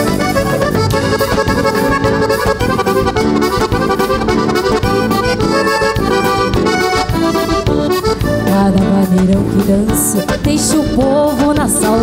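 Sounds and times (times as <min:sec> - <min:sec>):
strummed acoustic guitar: 0:00.0 - 0:10.8
button accordion playing: 0:00.0 - 0:12.0.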